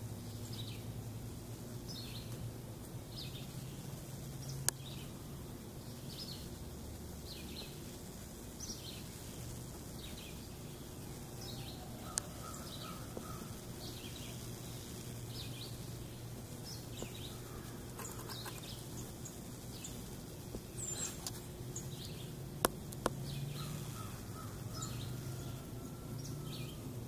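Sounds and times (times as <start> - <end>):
birds chirping: 0.0 - 27.0
low steady hum: 0.0 - 27.0.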